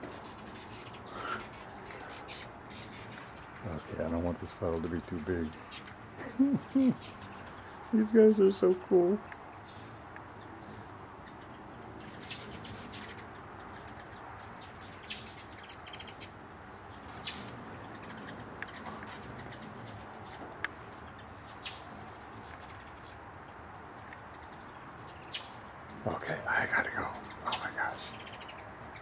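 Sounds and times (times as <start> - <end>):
high-pitched insect drone: 0.0 - 29.0
hummingbirds chipping: 0.0 - 29.0.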